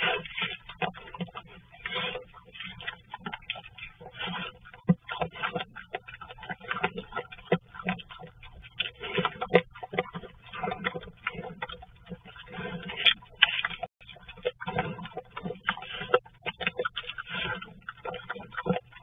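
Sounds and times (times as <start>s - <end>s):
bear crunching and chewing seed: 0.0s - 19.0s.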